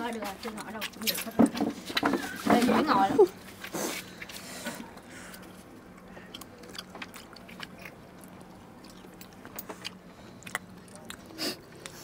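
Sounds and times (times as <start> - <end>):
chewing: 0.0 - 2.4, 3.4 - 12.0.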